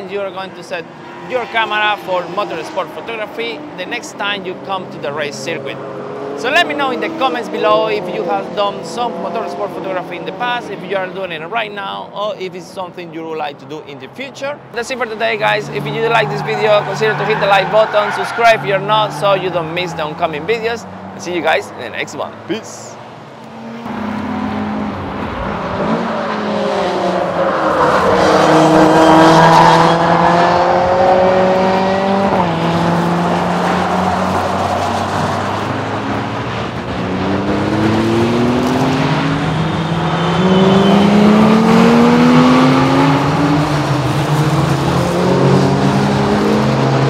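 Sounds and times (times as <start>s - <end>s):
race cars passing: 0.0s - 11.6s, 14.5s - 47.0s
engines revving: 0.0s - 11.7s, 14.8s - 47.0s.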